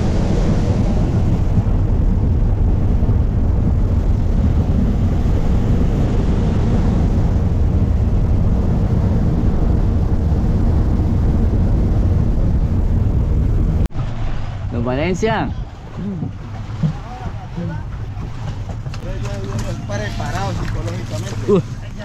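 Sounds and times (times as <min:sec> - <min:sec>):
boat engine low rumble: 0:00.0 - 0:22.0.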